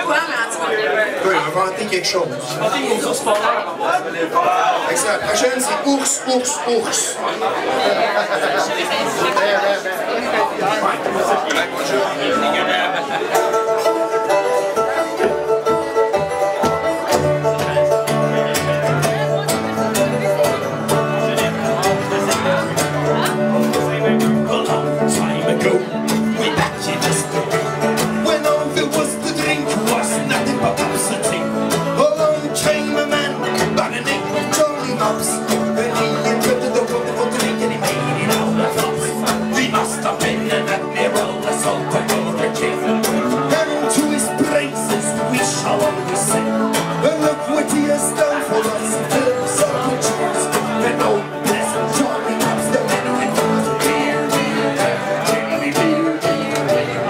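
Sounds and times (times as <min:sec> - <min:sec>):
picked banjo: 0:00.0 - 0:57.0
strummed acoustic guitar: 0:00.0 - 0:57.0.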